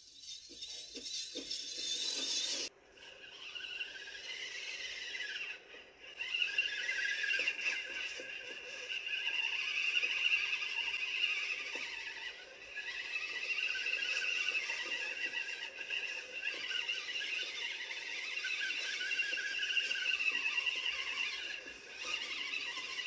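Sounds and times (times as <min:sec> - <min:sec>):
toy truck electric motor whining: 0:00.0 - 0:23.0.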